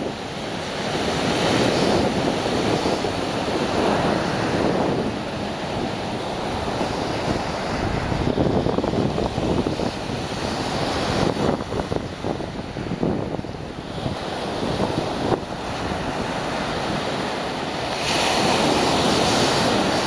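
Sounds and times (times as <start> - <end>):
surf breaking on beach: 0.0 - 20.0.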